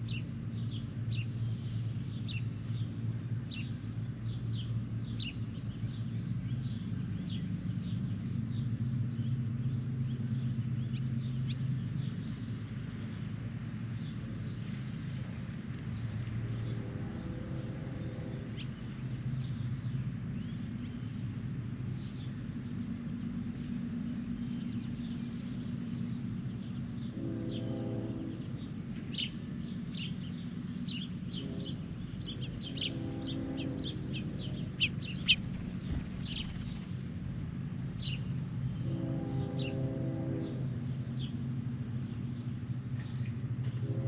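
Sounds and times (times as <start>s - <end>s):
birds chirping: 0.0s - 44.0s
steady low hum: 0.0s - 44.0s.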